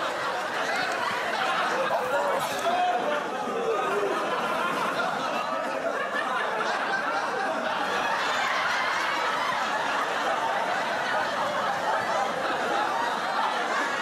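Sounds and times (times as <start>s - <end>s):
group of people laughing: 0.0s - 14.0s
people talking: 0.0s - 14.0s.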